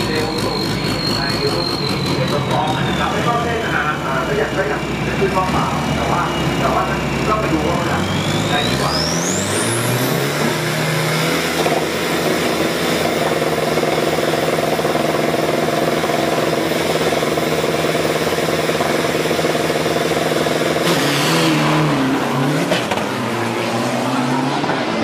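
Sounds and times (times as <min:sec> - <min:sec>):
diesel engines revving: 0:00.0 - 0:25.0.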